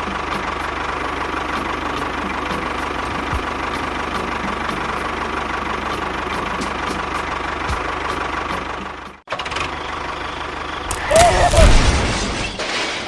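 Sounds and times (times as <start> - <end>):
engine idling with ticking: 0.0 - 11.1.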